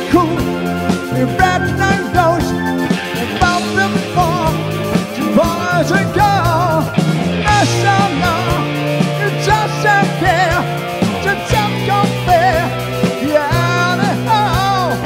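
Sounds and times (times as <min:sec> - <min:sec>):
bass guitar: 0:00.0 - 0:15.0
drum kit beat: 0:00.0 - 0:15.0
male vocal with vibrato: 0:00.0 - 0:15.0.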